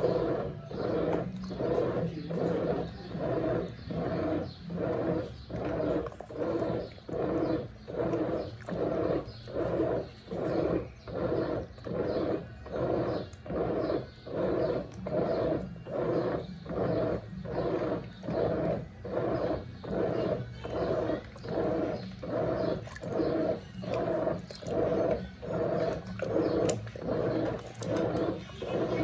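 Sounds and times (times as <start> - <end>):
washing machine churning water: 0.0 - 29.0
washing machine motor hum: 0.0 - 29.0.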